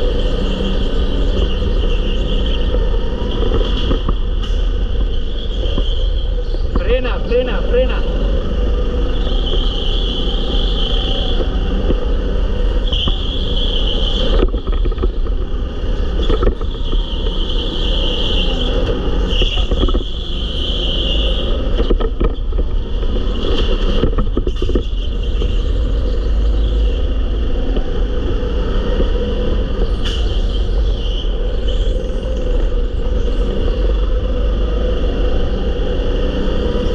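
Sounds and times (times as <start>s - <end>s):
go-kart motor and tyre rumble: 0.0s - 36.9s
high whine: 0.0s - 36.9s.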